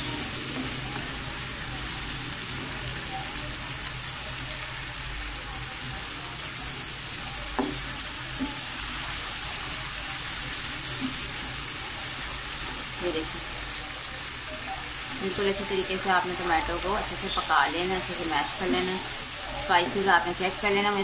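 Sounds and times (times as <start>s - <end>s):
masala sizzling in oil: 0.0s - 21.0s.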